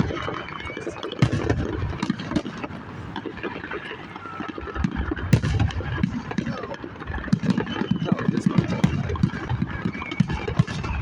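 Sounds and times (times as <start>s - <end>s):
fireworks bangs and pops: 0.0s - 11.0s.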